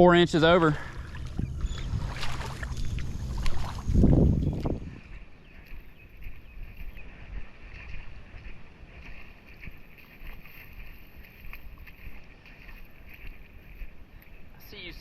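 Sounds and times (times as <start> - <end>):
wind rumbling on microphone: 0.0 - 14.6.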